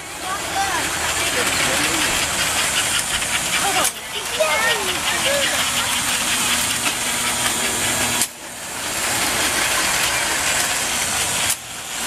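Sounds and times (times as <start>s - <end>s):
model train motor hum: 0.0s - 12.0s
train wheels clicking on rails: 0.0s - 12.0s.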